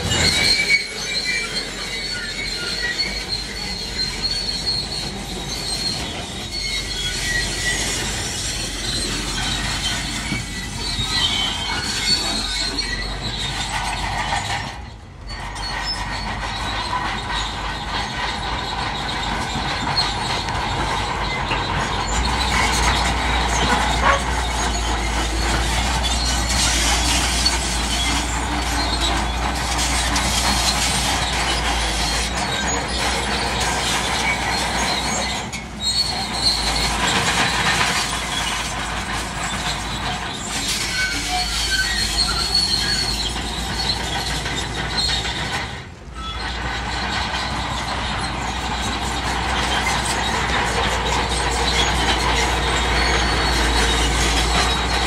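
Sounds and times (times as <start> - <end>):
bulldozer engine running: 0.0 - 55.0
bulldozer tracks squealing and clanking: 0.0 - 55.0.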